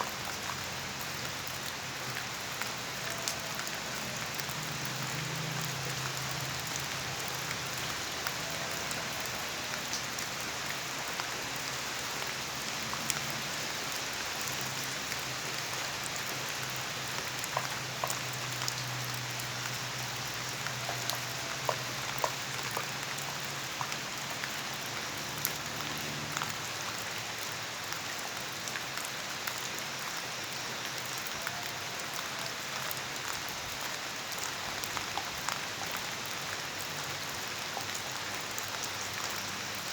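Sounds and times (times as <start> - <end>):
water drips ticking: 0.0 - 31.5, 32.8 - 39.9
steady rain falling: 0.0 - 39.9.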